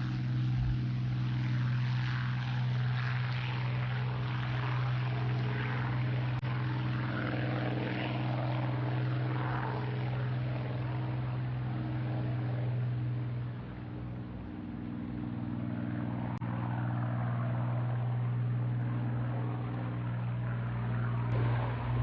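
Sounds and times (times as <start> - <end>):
propeller aircraft engine running: 0.0 - 22.0.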